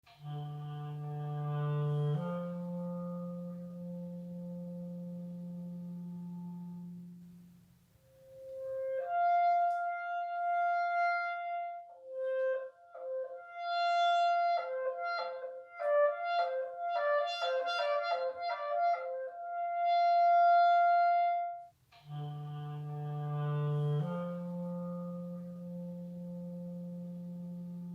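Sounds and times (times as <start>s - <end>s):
solo clarinet improvising: 0.0s - 27.9s.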